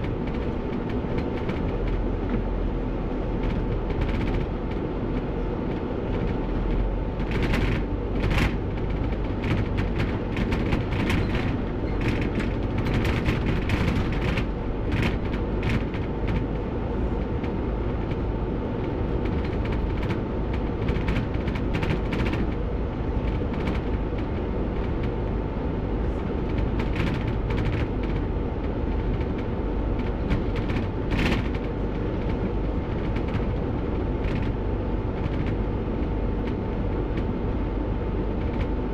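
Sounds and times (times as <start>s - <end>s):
body rattles and knocks: 0.0s - 38.9s
bus engine and road rumble: 0.0s - 38.9s.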